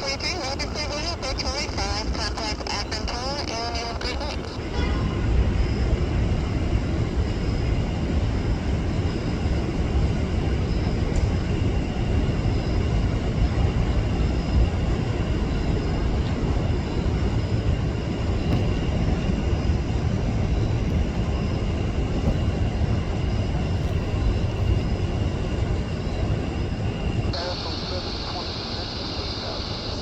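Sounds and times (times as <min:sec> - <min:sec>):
faint high whine: 0:00.0 - 0:30.0
jet engines rumbling: 0:00.0 - 0:30.0.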